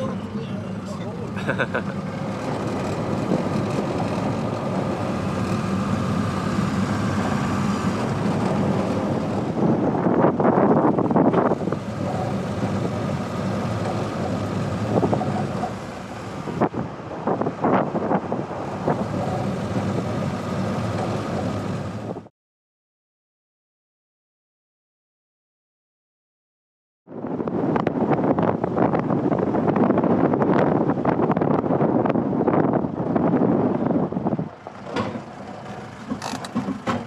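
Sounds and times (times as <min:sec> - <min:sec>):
car engine and tyre rumble: 0:00.0 - 0:22.3, 0:27.1 - 0:37.0
wind buffeting microphone: 0:00.0 - 0:22.3, 0:27.1 - 0:37.0.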